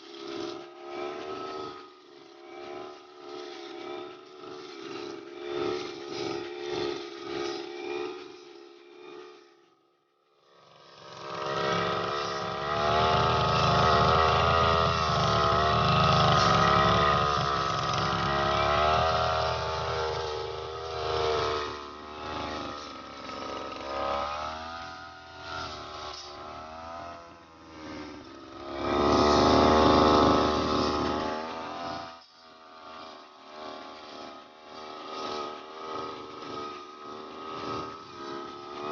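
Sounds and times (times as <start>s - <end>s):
brush cutter engine: 0.0s - 38.9s.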